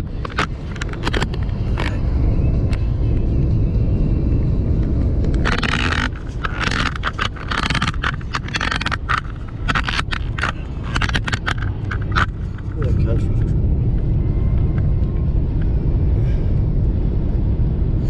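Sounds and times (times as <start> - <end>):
truck engine and tyres rumbling: 0.0 - 18.0.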